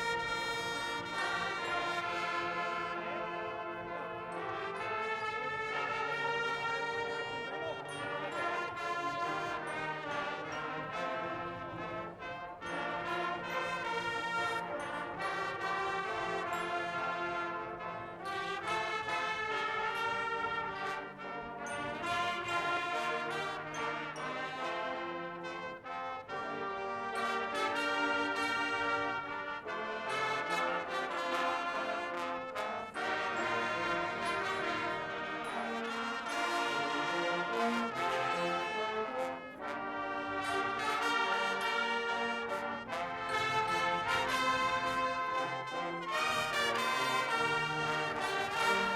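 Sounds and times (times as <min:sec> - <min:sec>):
brass band playing held chords: 0:00.0 - 0:48.9.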